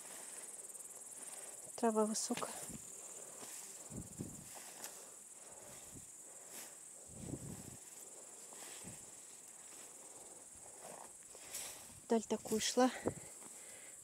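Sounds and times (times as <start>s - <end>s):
footsteps rustling through grass: 0.0s - 13.8s
grasshoppers chirring: 0.0s - 14.0s.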